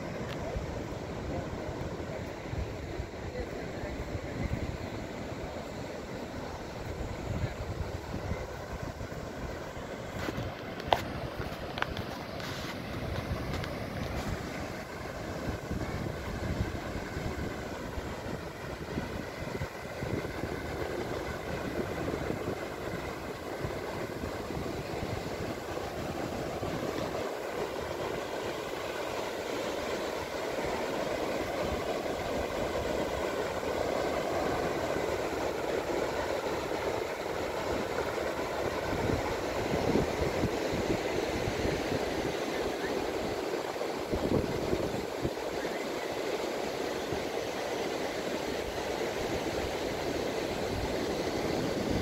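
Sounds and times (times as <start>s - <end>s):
surf washing onto beach: 0.0s - 52.0s
wind buffeting microphone: 0.1s - 47.4s.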